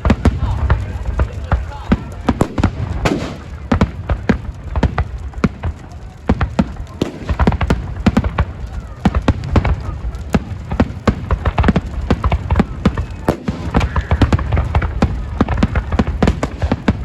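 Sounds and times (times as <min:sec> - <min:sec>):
firecrackers banging: 0:00.0 - 0:17.0.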